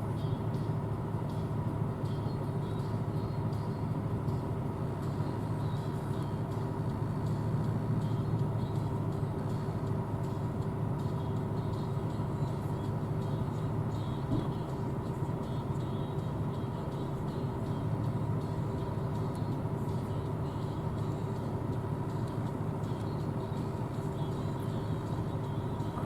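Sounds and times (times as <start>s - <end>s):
combine harvester humming: 0.0s - 26.0s.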